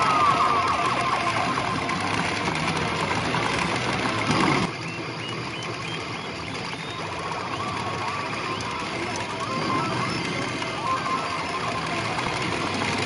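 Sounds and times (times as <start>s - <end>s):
pachinko machine electronic effects: 0.0s - 13.0s
steady rattling clatter: 0.0s - 13.0s.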